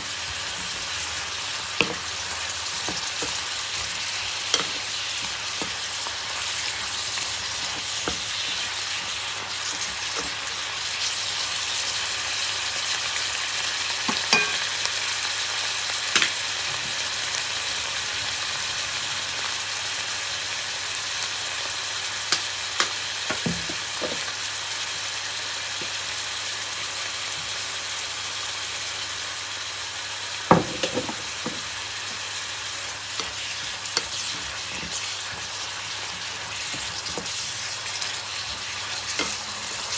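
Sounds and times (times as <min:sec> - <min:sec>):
greens sizzling in a pan: 0:00.0 - 0:39.9.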